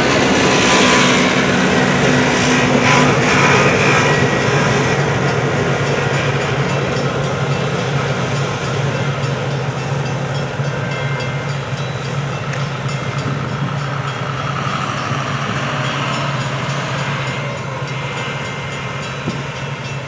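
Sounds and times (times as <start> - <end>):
crossing bell dinging: 0.0 - 20.0
diesel locomotive engines droning: 0.0 - 20.0
train wheels rumbling on rail: 0.0 - 20.0.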